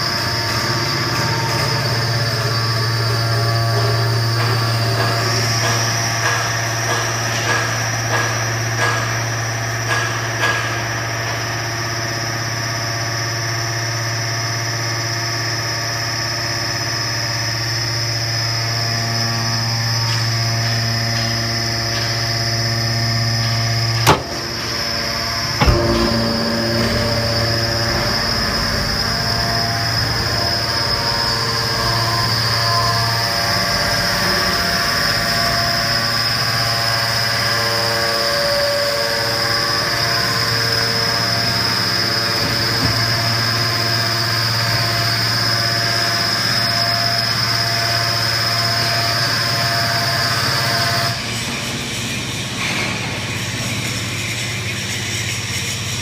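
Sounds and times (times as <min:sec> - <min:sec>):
high machine whine: 0:00.0 - 0:56.0
hydraulic unit humming: 0:00.0 - 0:56.0.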